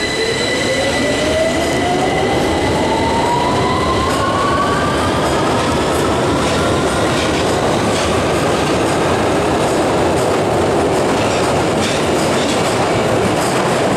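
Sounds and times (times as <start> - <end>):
underground train rumbling: 0.0 - 13.9.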